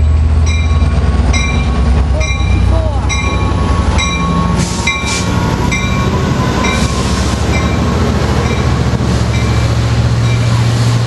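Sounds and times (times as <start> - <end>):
diesel locomotive engine: 0.0 - 11.0
train cars rolling by: 0.0 - 11.0
bell ringing: 0.4 - 5.1, 5.7 - 10.6.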